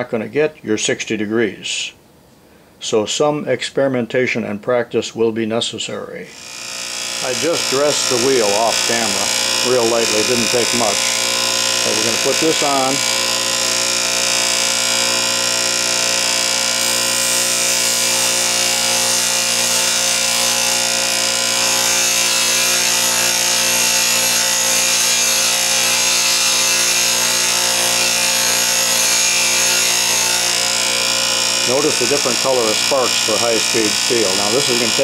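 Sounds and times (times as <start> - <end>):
bench grinder humming: 6.3 - 35.0
metal grinding hiss: 6.3 - 35.0.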